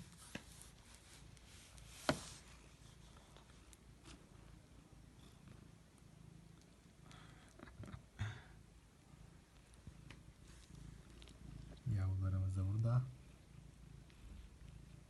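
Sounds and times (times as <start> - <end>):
cat purring faintly: 0.0 - 15.0.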